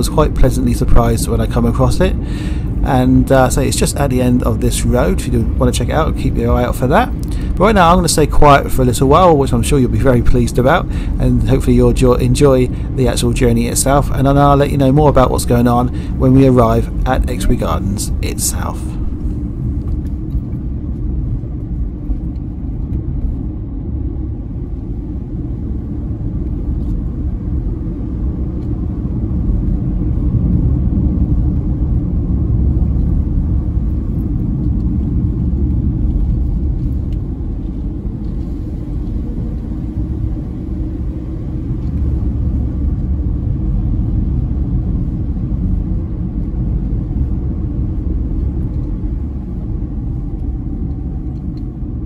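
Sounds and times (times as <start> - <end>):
car driving rumble from inside: 0.0 - 52.0.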